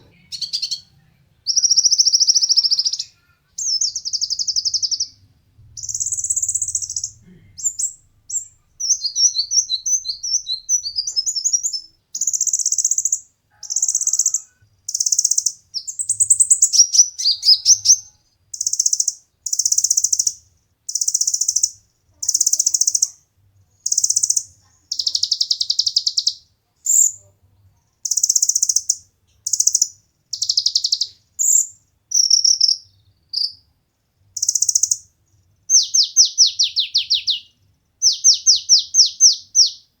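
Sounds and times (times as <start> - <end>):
sunbird chirping and trilling: 0.0 - 5.2, 5.8 - 23.2, 23.8 - 27.2, 28.0 - 33.7, 34.4 - 40.0.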